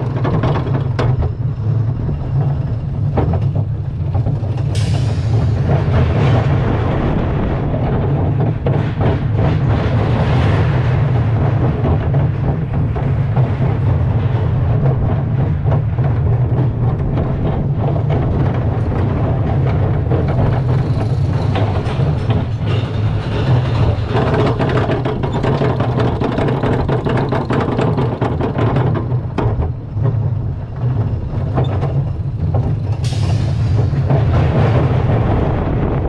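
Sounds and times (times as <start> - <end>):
roller coaster wheels clattering: 0.0 - 36.0.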